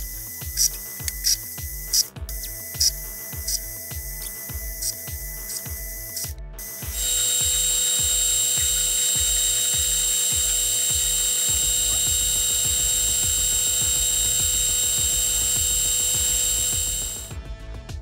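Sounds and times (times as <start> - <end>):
file against spinning shaft: 0.0 - 17.3
metal lathe whining: 0.0 - 17.3.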